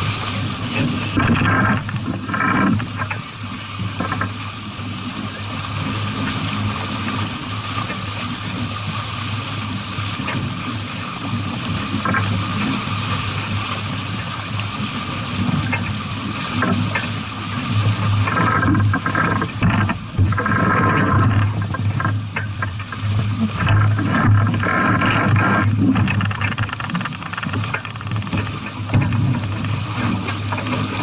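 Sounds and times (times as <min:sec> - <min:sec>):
water rushing around a sailboat: 0:00.0 - 0:31.0
wind: 0:00.0 - 0:31.0.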